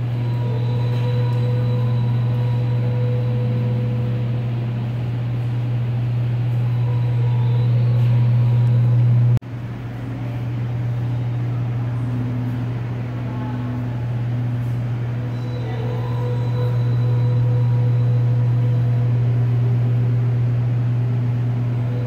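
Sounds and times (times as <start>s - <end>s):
loud low drone: 0.0s - 22.0s.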